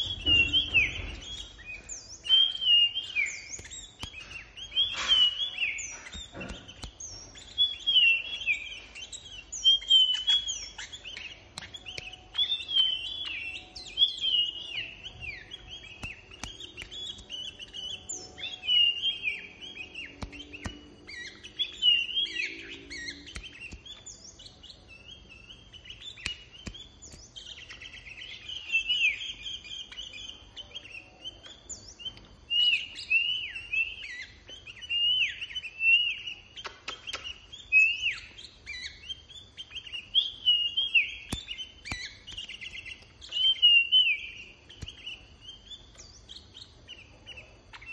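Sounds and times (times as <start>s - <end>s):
bird singing whistled phrases: 0.0s - 47.9s.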